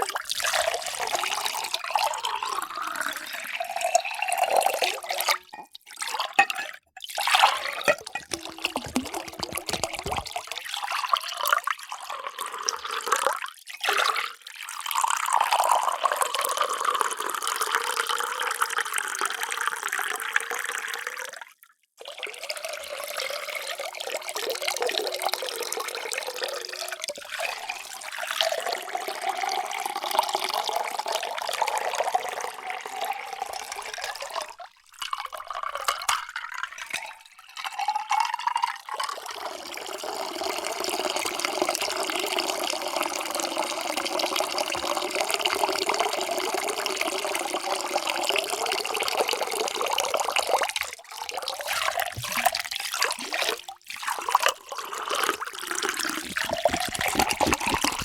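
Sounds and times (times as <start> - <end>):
water pouring into a container: 0.0 - 58.0.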